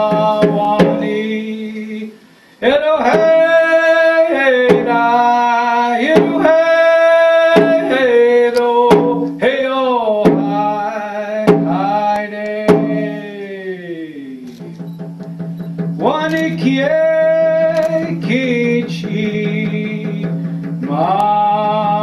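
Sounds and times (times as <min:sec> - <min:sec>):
frame drum strokes: 0:00.0 - 0:02.1, 0:02.7 - 0:13.3, 0:14.6 - 0:22.0
man singing long notes: 0:00.0 - 0:14.5, 0:16.0 - 0:22.0.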